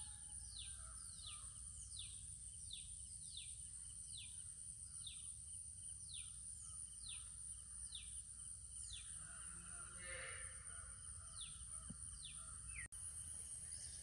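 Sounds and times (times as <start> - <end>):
steady high-pitched hiss: 0.0 - 14.0.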